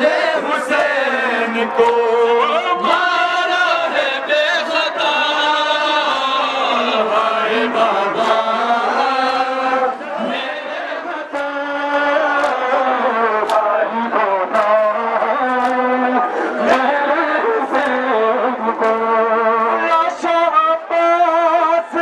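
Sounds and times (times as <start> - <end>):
men chanting a mourning lament: 0.0 - 22.0.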